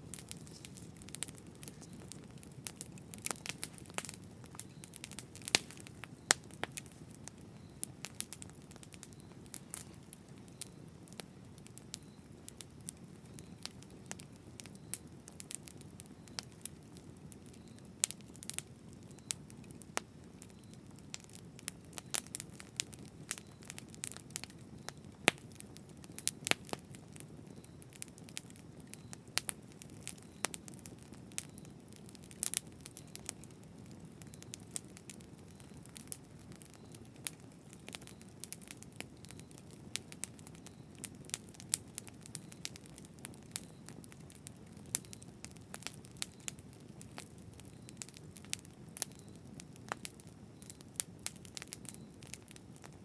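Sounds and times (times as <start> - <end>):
low rumble of flames: 0.0 - 53.0
wood crackling and popping: 0.0 - 53.0.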